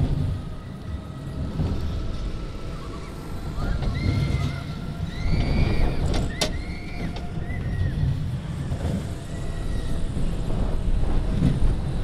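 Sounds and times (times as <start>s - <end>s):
roller coaster car rumbling on track: 0.0s - 12.0s.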